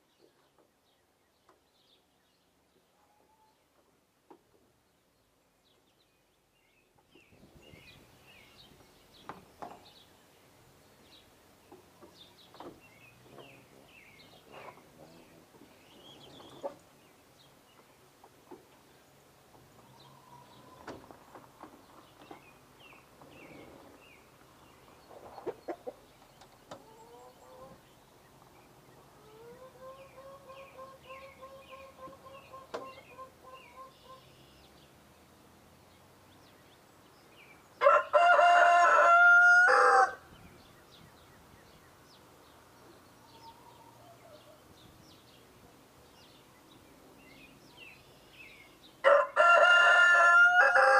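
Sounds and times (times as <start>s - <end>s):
small birds chirping: 0.0s - 38.0s, 40.2s - 49.1s.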